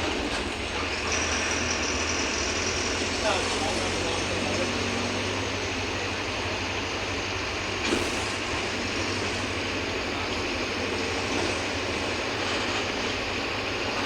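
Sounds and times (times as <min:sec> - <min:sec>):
bus diesel engine: 0:00.0 - 0:14.0
road noise: 0:00.0 - 0:14.0.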